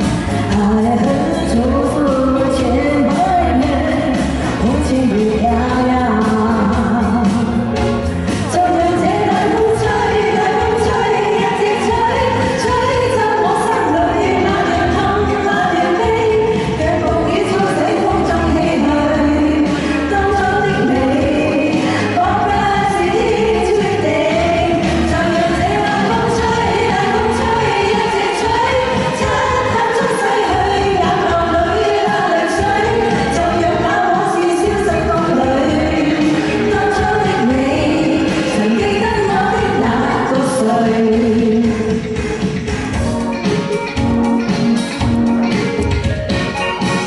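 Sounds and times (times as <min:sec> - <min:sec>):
band with drum beat: 0:00.0 - 0:47.0
instrumental accompaniment: 0:00.0 - 0:47.0
pop song vocals: 0:00.0 - 0:47.0.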